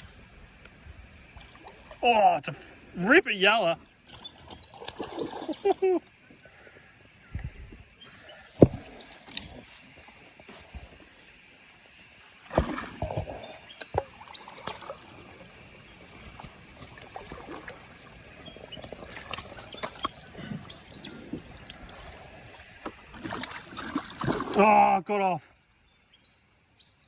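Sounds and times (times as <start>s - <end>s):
water splashing: 0.0s - 25.0s.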